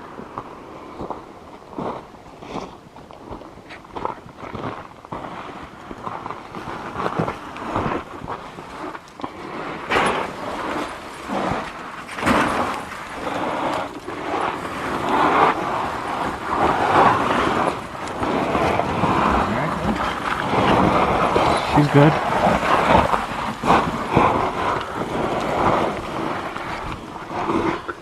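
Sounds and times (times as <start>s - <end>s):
road and tyre noise: 0.0s - 28.0s.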